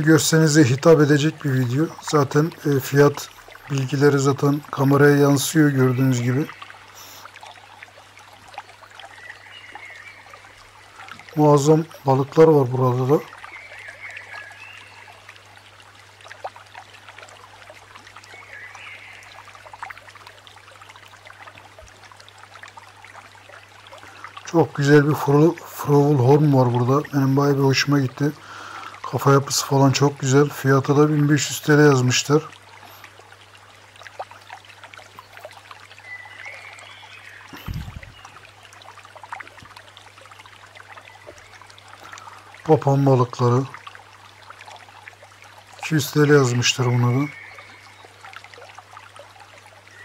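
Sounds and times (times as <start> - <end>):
water drips: 0.0 - 50.0
water trickling and bubbling: 0.0 - 50.0.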